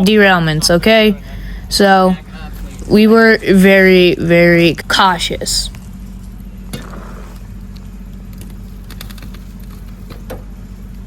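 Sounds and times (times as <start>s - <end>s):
miniature train humming: 0.0s - 11.0s
train wheels clicking and rattling: 0.0s - 11.0s.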